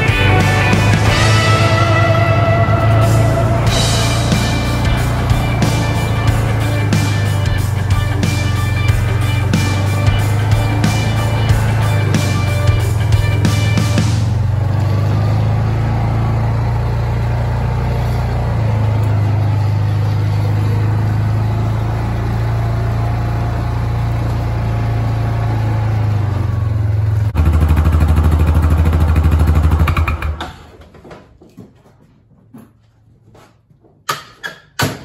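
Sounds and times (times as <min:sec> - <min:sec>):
off-road vehicle engine running: 0:00.0 - 0:30.7.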